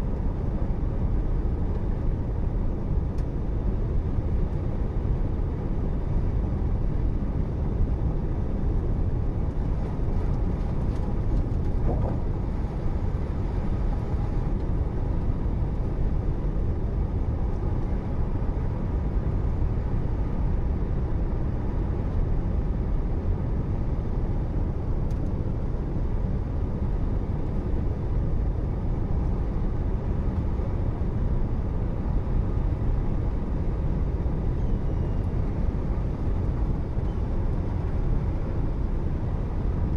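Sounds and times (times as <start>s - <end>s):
moving car rumble: 0.0s - 39.9s.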